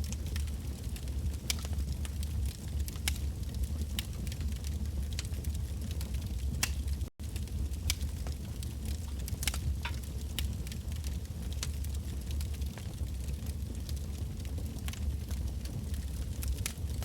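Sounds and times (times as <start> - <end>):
bonfire crackling and popping: 0.0 - 17.0
low fire rumble: 0.0 - 17.0.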